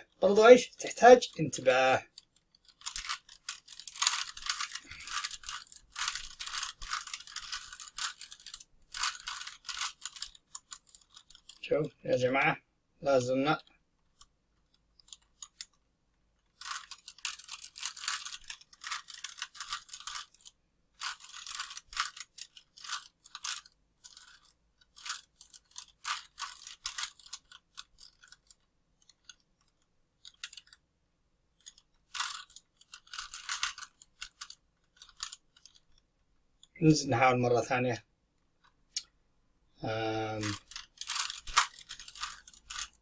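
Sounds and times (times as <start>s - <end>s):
puzzle cube layers clicking: 1.6s - 11.6s, 13.5s - 15.8s, 16.4s - 30.8s, 31.5s - 36.7s, 40.2s - 43.0s.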